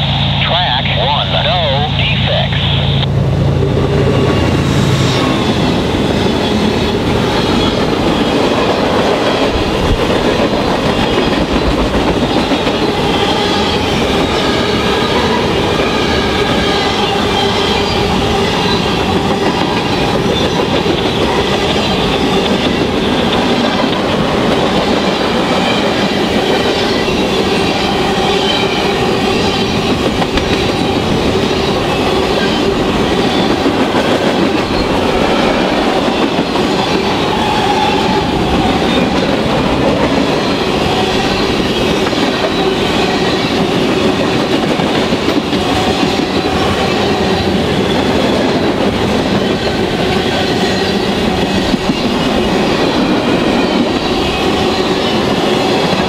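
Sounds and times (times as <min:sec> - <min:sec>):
diesel locomotive engines passing: 0:00.0 - 0:56.0.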